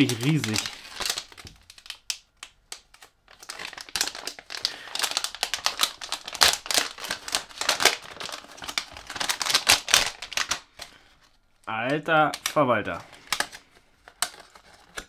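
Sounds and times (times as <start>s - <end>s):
plastic packet crinkling: 0.0s - 15.0s.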